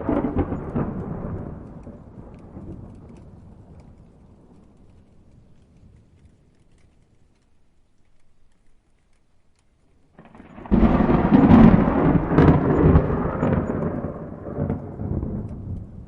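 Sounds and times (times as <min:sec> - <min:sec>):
thunder rumbling and crackling: 0:00.0 - 0:07.5, 0:10.1 - 0:16.0.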